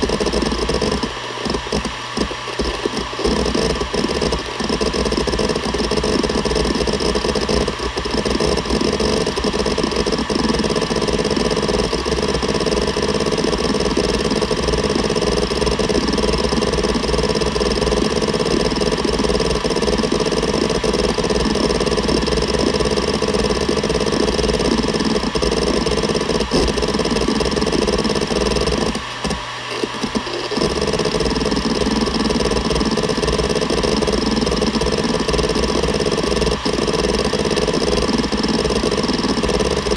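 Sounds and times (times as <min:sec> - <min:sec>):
hard drive head seek chatter: 0:00.0 - 0:39.9
hard drive spindle whine: 0:00.0 - 0:39.9.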